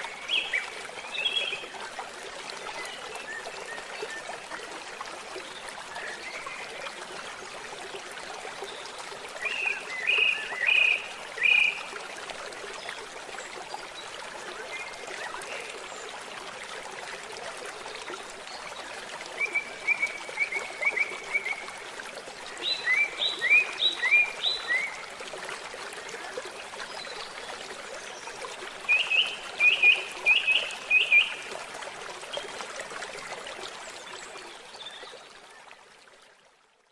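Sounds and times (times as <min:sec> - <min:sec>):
trickling stream: 0:00.0 - 0:36.9.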